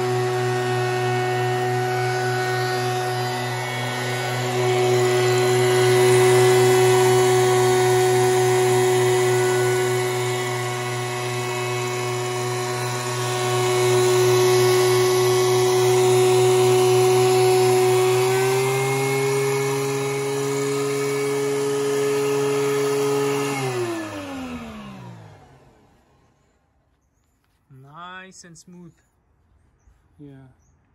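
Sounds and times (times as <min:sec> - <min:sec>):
planer winding down: 0:00.0 - 0:26.5
thickness planer whining: 0:00.0 - 0:27.0.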